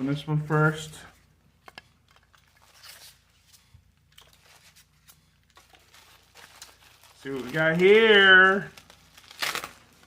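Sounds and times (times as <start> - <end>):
paper or plastic rustling: 1.8 - 10.0.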